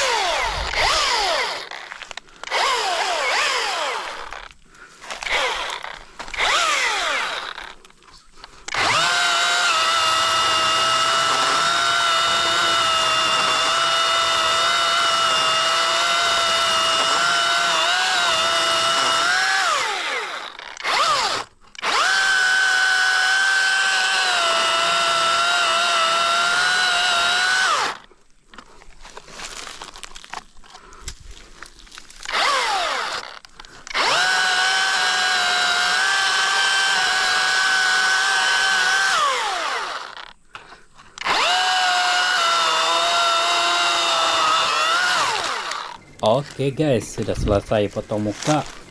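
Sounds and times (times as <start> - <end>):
electric chainsaw motor whine: 0.0 - 7.9, 8.7 - 28.1, 32.2 - 40.4, 41.2 - 46.2.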